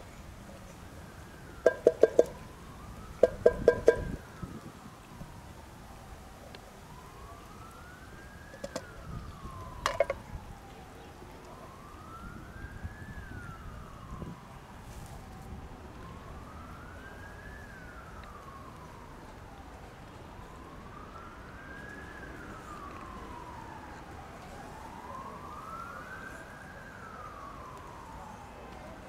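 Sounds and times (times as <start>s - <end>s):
emergency vehicle siren wailing: 0.0s - 29.0s.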